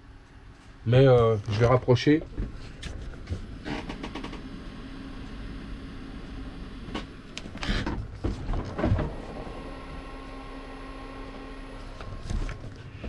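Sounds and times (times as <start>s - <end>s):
cooler compressor humming: 0.0s - 13.0s.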